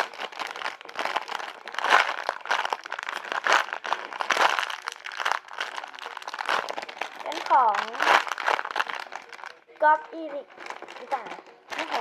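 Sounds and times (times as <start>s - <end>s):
wrapping crinkling and rustling: 0.0s - 12.0s.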